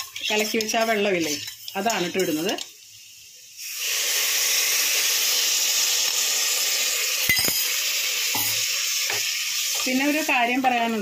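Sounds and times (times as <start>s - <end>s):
liquid sizzling in hot pot: 0.0s - 11.0s.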